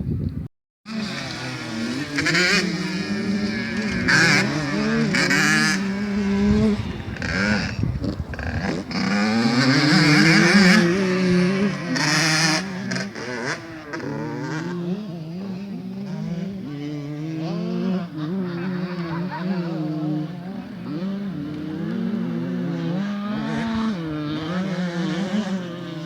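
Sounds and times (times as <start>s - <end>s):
motocross bike engines revving: 0.9s - 26.0s.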